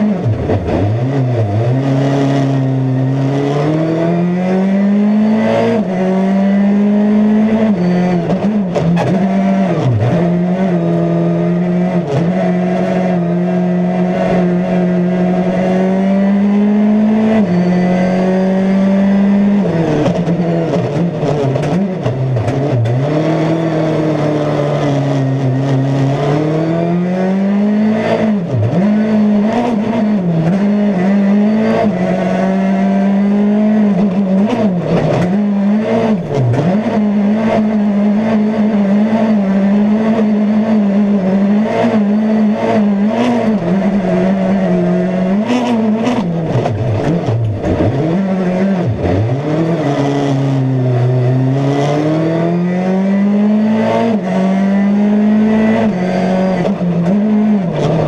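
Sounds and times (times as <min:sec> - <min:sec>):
rally car engine revving hard: 0:00.0 - 0:58.0.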